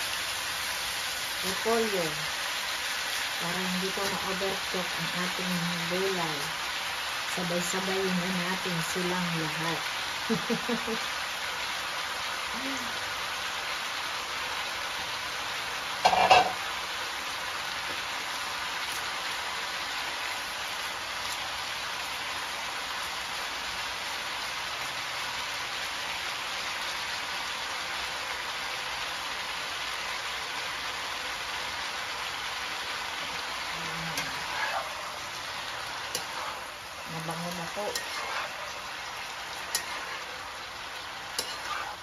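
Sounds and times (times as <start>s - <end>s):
vegetables sizzling in a wok: 0.0s - 42.0s.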